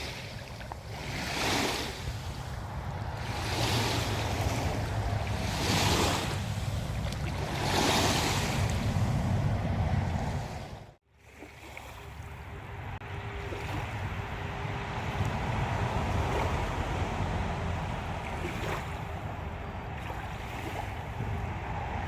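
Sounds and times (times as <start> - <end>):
wind buffeting microphone: 0.0 - 11.0, 12.6 - 22.0.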